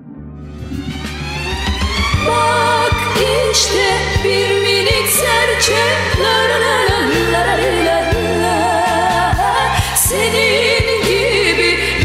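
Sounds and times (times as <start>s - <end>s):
person singing: 2.2s - 12.0s.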